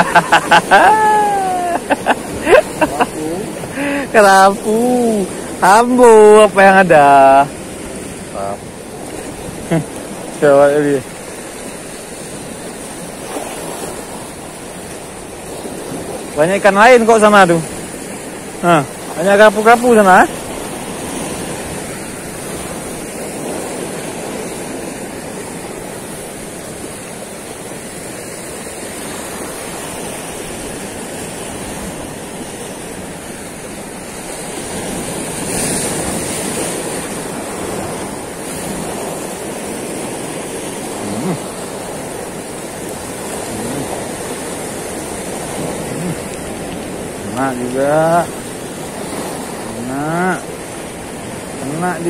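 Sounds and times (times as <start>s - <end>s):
surf breaking over rocks: 0.0s - 52.0s.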